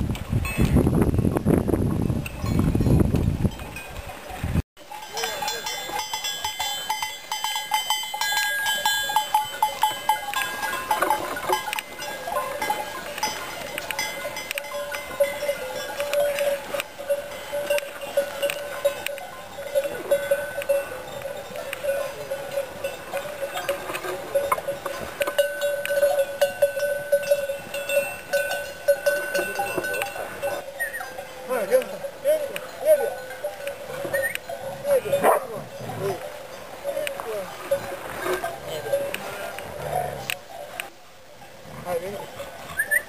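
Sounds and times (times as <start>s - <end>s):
sheep bells clanking: 0.4s - 43.0s.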